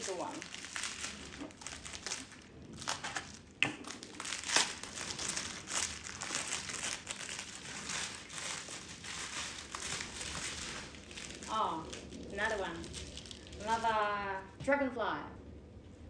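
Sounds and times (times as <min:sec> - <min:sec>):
bubble wrap crinkling: 0:00.0 - 0:14.6.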